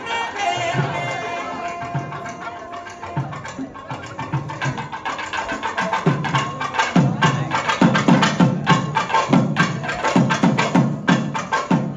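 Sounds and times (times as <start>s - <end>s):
rhythmic drumming music: 0.0s - 11.9s.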